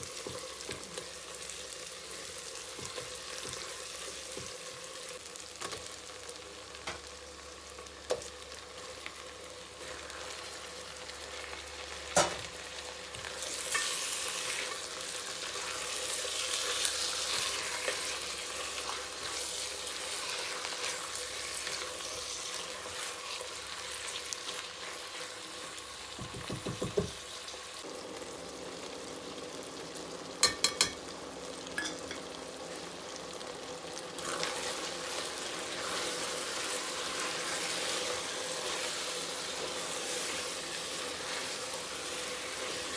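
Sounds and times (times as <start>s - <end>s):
food sizzling in hot oil: 0.0s - 42.9s.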